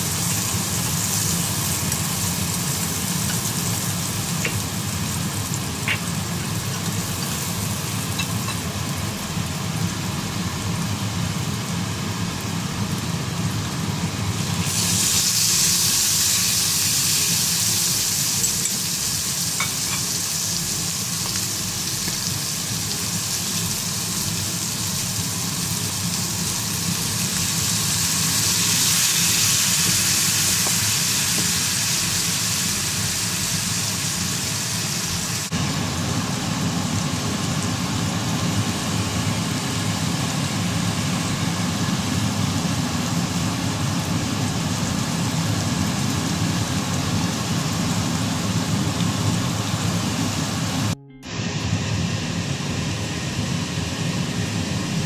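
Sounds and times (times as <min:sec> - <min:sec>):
garlic sizzling in oil: 0:00.0 - 0:51.0
meat sizzling in pan: 0:00.0 - 0:51.0.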